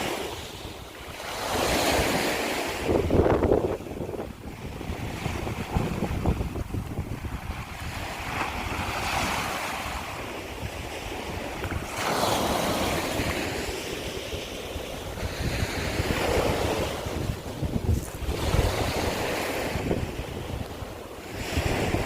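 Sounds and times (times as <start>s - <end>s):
waves washing over shells: 0.0s - 22.0s
wind rumble on microphone: 0.0s - 22.0s.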